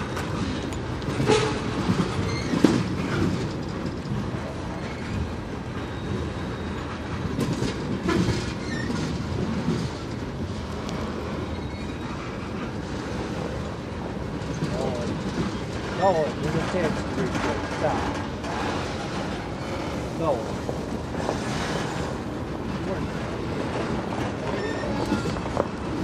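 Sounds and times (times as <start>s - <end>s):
freight train cars rolling: 0.0s - 26.0s
wheels knocking and clunking: 0.0s - 26.0s.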